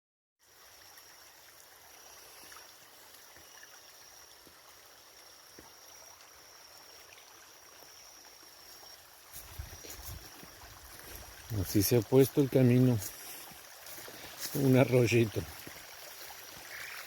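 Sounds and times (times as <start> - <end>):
water running over dirt: 0.4 - 17.0.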